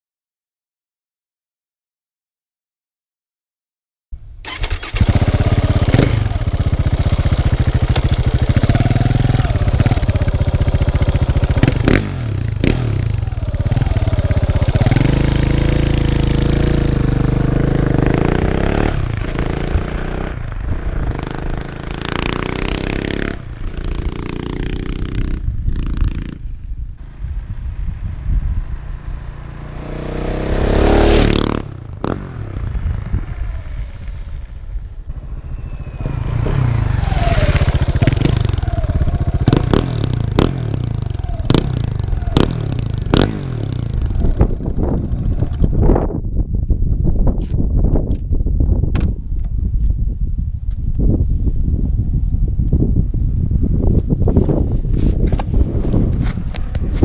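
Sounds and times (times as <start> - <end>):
motorcycle engine idling and revving: 4.4 - 57.0.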